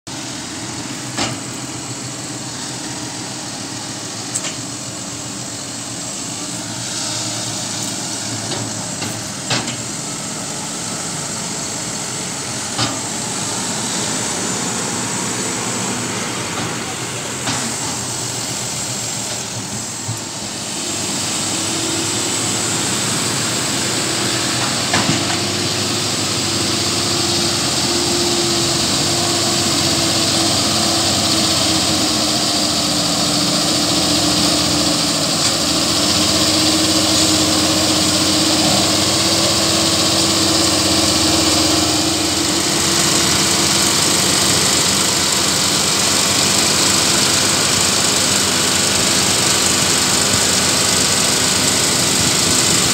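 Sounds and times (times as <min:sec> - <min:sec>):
tractor engine under load: 0:00.1 - 0:52.9.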